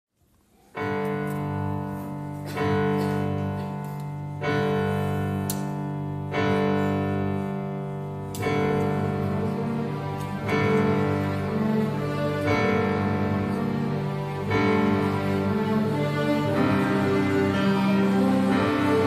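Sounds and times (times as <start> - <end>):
string orchestra chords: 0.8 - 19.0.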